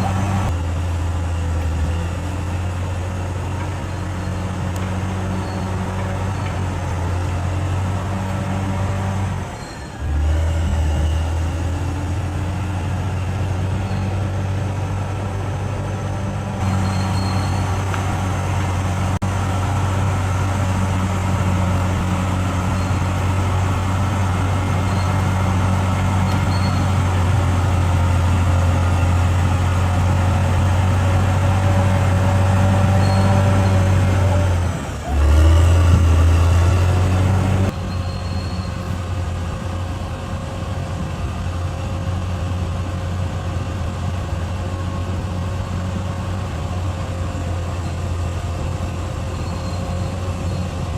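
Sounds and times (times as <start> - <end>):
bulldozer diesel engine droning: 0.0 - 50.9.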